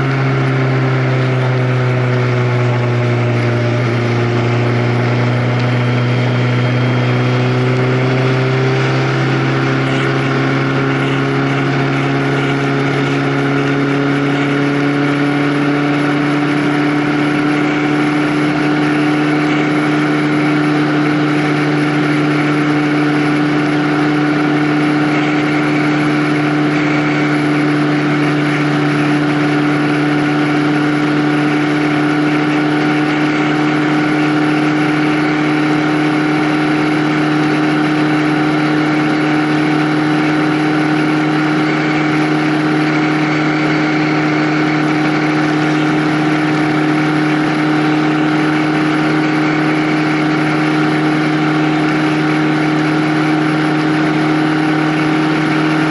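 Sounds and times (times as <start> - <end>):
vehicle engine droning: 0.0 - 55.9.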